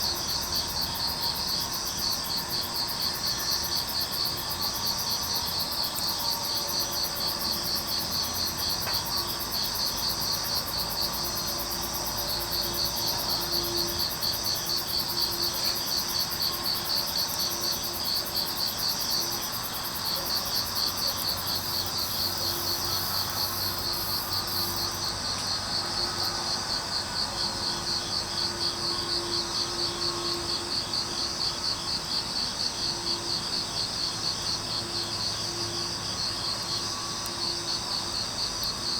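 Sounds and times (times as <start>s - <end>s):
crickets chirping chorus: 0.0s - 38.9s
high-pitched insect trill: 0.0s - 38.9s.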